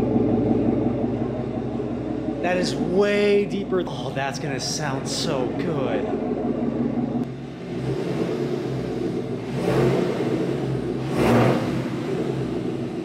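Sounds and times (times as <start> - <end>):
engine idling with deep rumble: 0.0 - 13.0
engine revving: 0.0 - 13.0.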